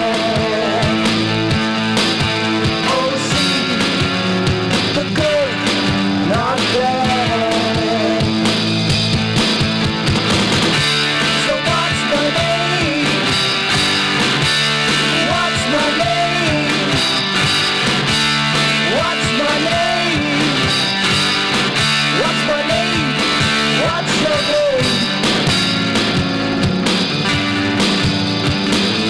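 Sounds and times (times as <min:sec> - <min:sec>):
electric guitar lead line: 0:00.0 - 0:29.0
rock music: 0:00.0 - 0:29.0.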